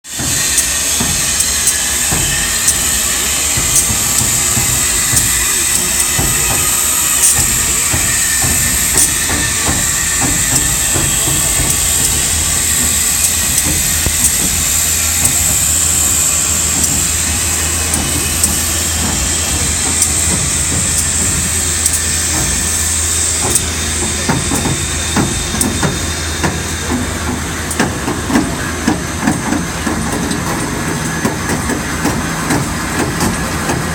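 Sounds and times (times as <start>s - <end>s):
steam locomotive hissing: 0.0s - 33.9s
metallic clicks and clanks: 0.2s - 33.9s.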